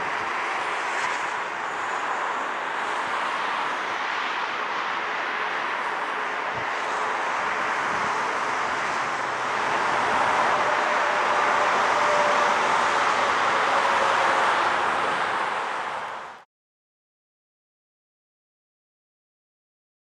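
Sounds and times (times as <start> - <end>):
jet engines rushing: 0.0 - 16.4.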